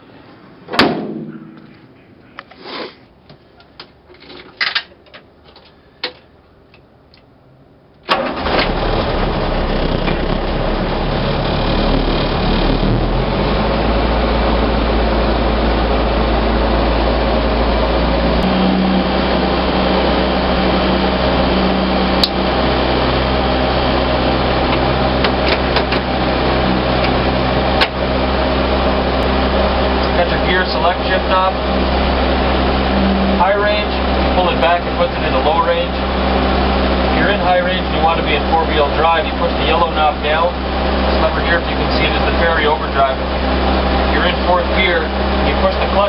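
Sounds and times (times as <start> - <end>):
car engine starting and idling: 7.9 - 46.0.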